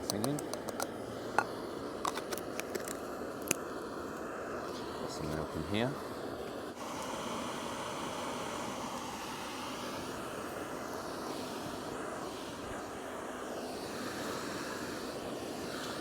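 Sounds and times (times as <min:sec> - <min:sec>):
gas stove burner hissing: 0:00.0 - 0:16.0.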